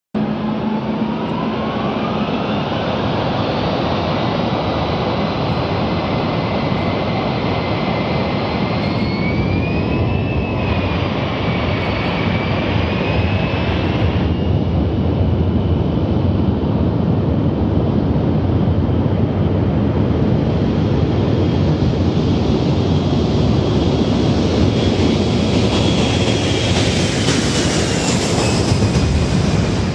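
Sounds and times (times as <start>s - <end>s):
engine whine wavering in pitch: 0.2s - 29.9s
jet engines roaring: 0.2s - 29.9s.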